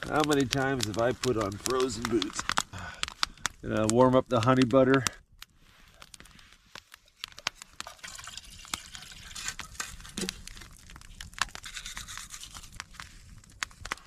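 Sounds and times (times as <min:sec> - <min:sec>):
butter sizzling in a pan: 0:00.0 - 0:03.9, 0:06.0 - 0:14.0.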